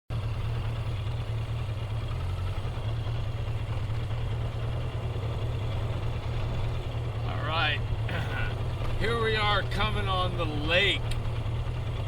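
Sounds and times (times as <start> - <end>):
car engine and road rumble: 0.1 - 12.0.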